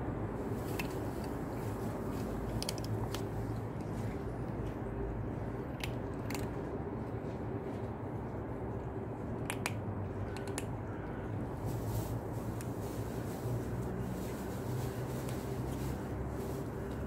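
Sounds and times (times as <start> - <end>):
cats crunching dry kibble: 0.5 - 17.0.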